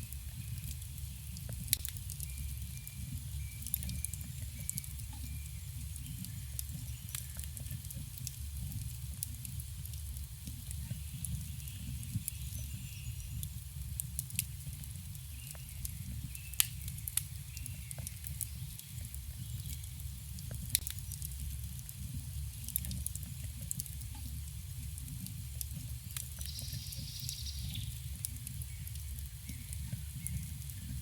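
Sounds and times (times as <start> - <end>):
campfire crackling and popping: 0.0 - 31.0
fire low rumble: 0.0 - 31.0.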